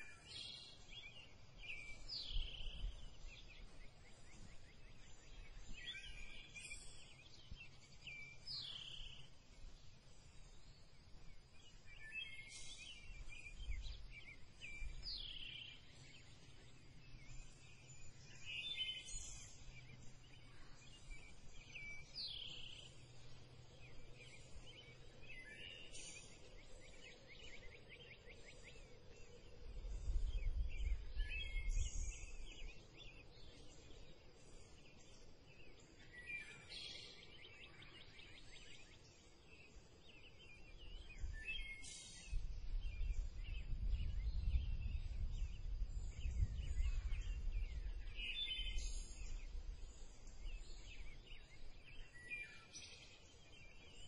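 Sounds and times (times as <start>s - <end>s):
bird chirping: 0.0s - 54.0s
faint steady hiss and hum: 0.0s - 54.0s.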